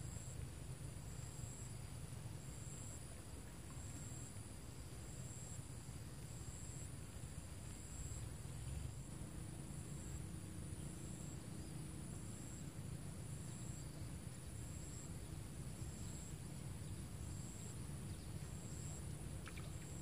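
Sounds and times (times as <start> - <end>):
insect chirping in pulses: 0.0 - 20.0.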